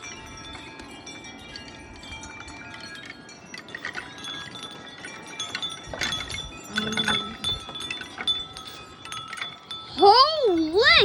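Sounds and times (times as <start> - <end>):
metal wind chime ringing: 0.0 - 11.0.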